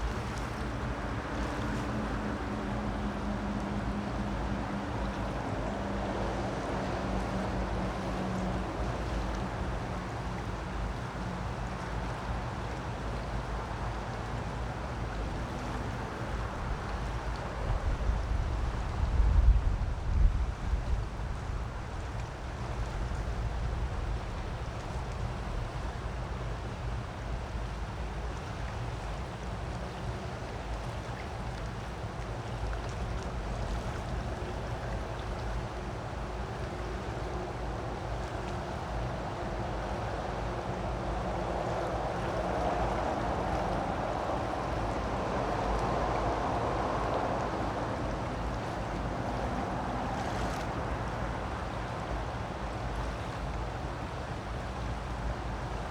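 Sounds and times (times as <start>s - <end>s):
creek water rushing over rocks: 0.0s - 19.2s, 21.4s - 55.9s.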